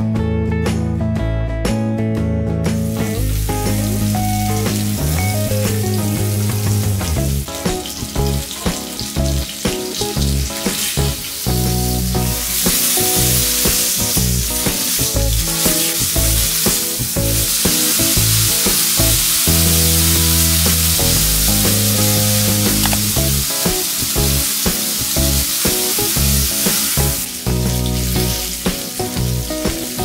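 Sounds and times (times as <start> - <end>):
background music: 0.0 - 30.0
steak sizzling on grill pan: 2.8 - 30.0.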